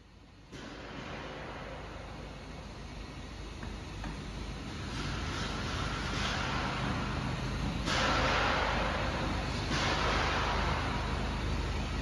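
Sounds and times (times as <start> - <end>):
steady background rushing noise: 0.0 - 12.0.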